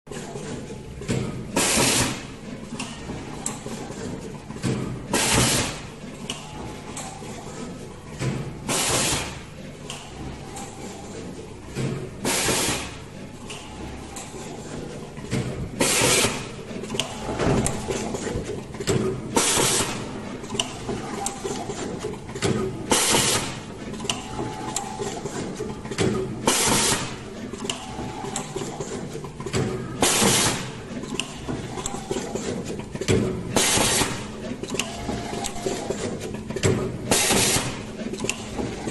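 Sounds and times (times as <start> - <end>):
machine humming: 2.2 - 38.9.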